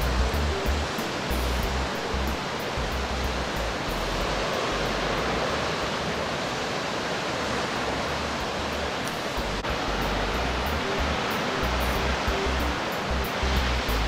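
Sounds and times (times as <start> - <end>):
sea surf against rocks: 0.0 - 14.0.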